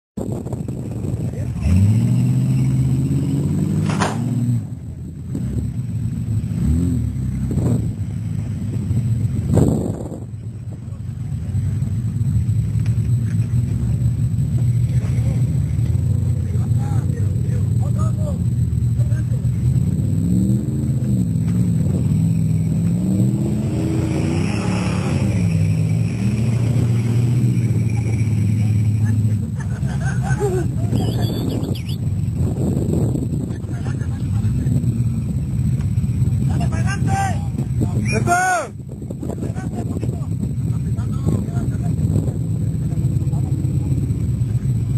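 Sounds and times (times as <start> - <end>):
vehicle engine running: 0.2 - 44.9
engine revving: 0.3 - 44.9.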